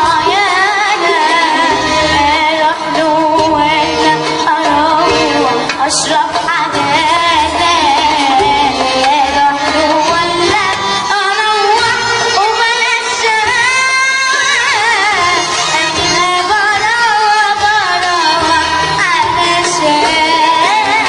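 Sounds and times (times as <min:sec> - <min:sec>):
girl singing: 0:00.0 - 0:21.0
musical accompaniment: 0:00.0 - 0:21.0.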